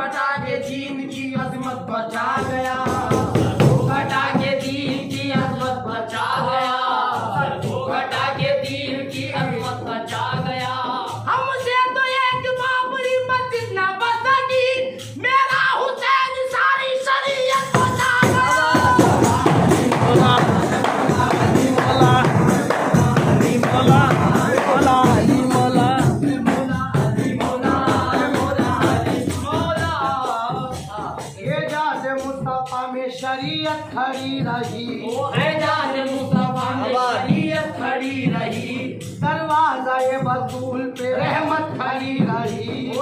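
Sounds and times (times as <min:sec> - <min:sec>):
devotional singing: 0:00.0 - 0:43.0
steady percussive beat: 0:00.0 - 0:43.0
instrumental accompaniment: 0:00.1 - 0:15.6, 0:17.4 - 0:43.0.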